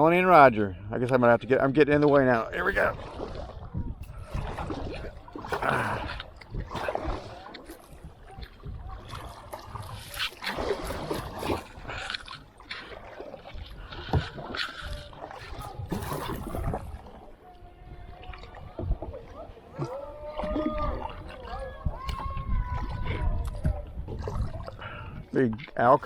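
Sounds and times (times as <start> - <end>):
paddles splashing in water: 0.0 - 26.0.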